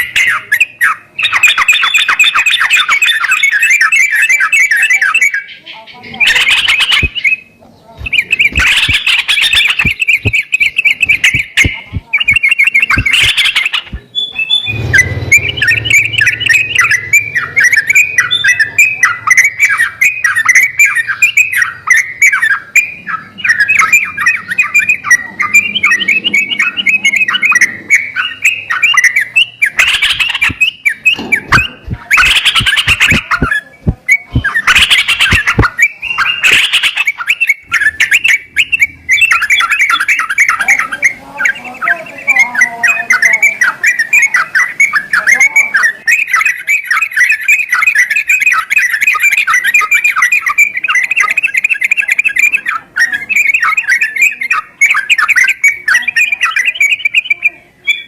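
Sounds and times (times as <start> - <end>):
bulbul chirping song: 0.0 - 58.0.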